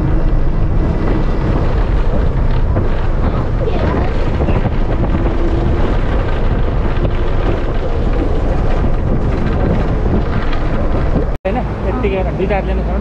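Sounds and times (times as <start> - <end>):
vehicle rumble: 0.0 - 13.0
wind buffeting microphone: 0.0 - 13.0.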